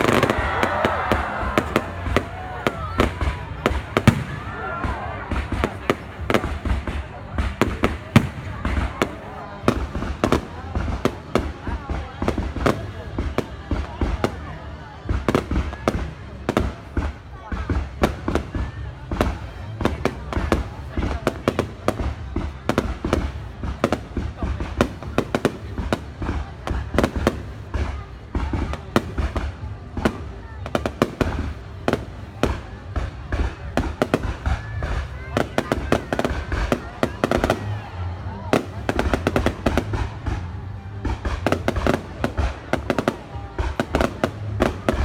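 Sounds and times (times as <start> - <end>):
fireworks bangs and cracks: 0.0 - 45.0.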